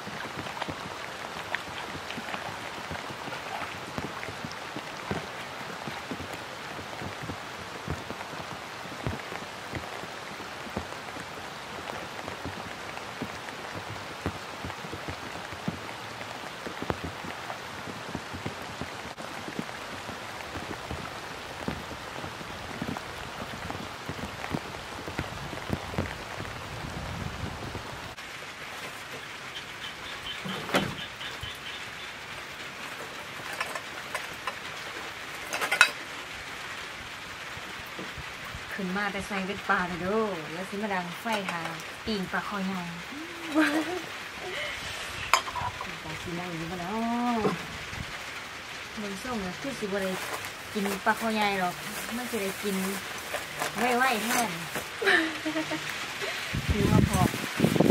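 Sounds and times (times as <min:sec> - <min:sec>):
rain falling on water and grass: 0:00.0 - 0:57.9.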